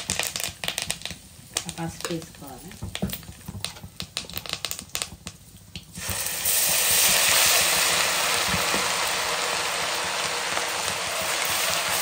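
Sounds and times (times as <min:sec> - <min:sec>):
oil sizzling in pan: 0:00.0 - 0:12.0.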